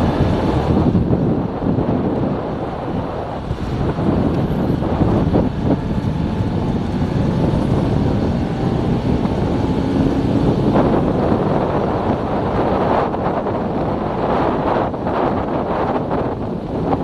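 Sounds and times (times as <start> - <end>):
motorcycle engine: 0.0 - 17.0
road noise: 0.0 - 17.0
wind noise on microphone: 0.0 - 17.0.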